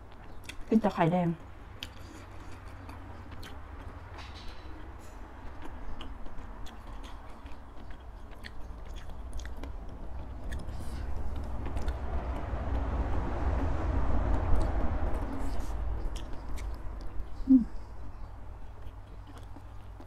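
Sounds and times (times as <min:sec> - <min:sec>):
mouth chewing: 0:00.0 - 0:12.5, 0:14.4 - 0:20.0.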